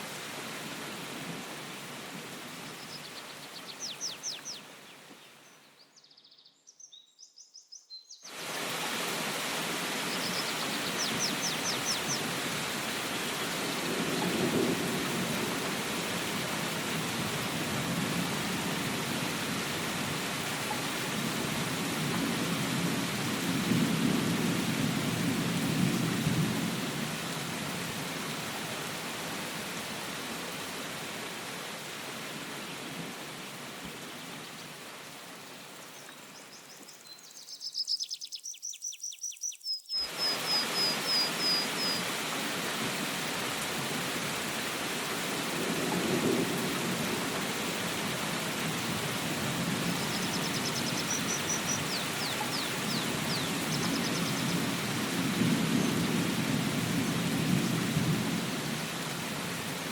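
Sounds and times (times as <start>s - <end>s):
steady rain falling: 0.0s - 5.6s, 8.3s - 37.4s, 40.0s - 59.9s.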